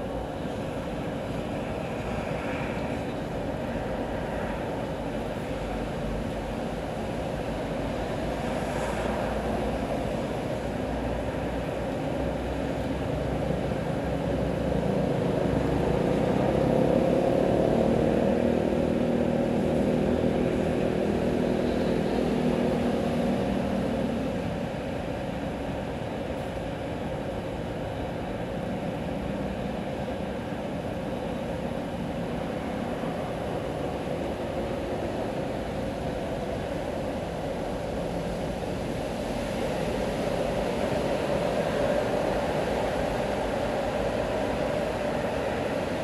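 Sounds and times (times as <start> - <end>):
passing vehicle engine hum: 0.0 - 25.7, 26.6 - 46.0
tyres on wet street: 0.0 - 46.0.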